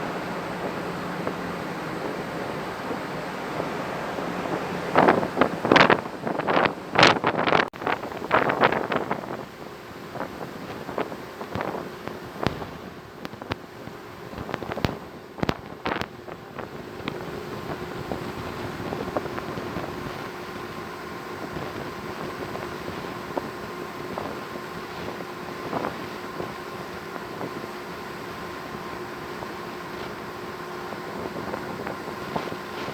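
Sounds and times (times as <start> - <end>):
ship engine drone: 0.0 - 32.9
water noise: 0.0 - 32.9
wind: 0.0 - 32.9.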